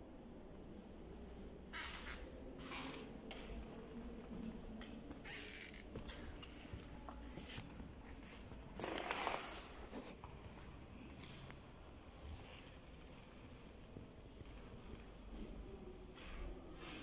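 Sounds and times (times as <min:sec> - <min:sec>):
soft rustles and scuffs: 0:00.6 - 0:17.0.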